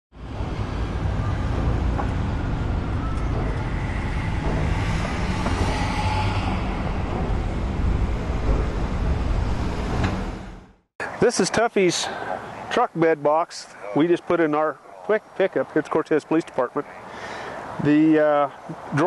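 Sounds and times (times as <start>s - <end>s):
vehicle road noise: 0.1s - 19.0s.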